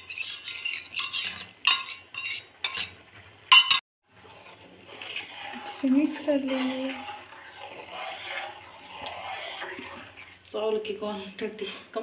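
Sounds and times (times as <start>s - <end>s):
ladle scraping metal pan: 0.0s - 3.0s, 3.6s - 12.0s.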